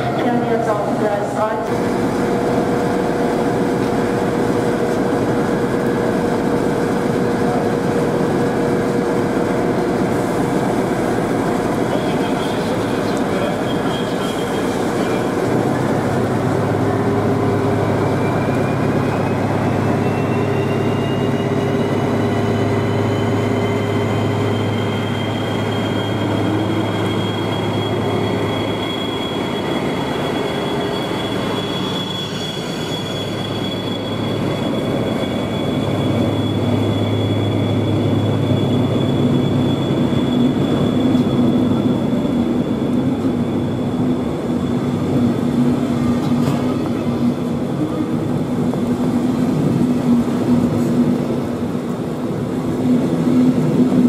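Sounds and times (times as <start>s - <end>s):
coaches rolling on rails: 0.0s - 54.0s
diesel locomotive droning: 0.0s - 54.0s.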